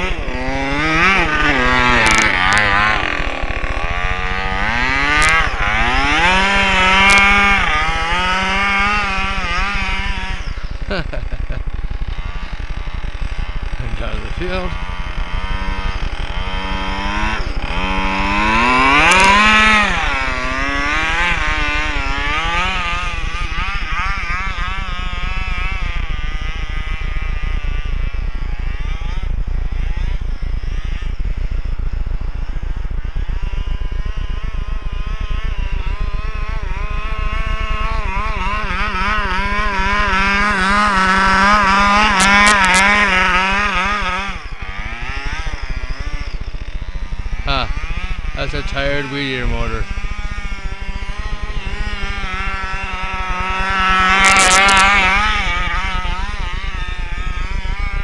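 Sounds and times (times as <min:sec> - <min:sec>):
small two-stroke engine revving: 0:00.0 - 0:58.0.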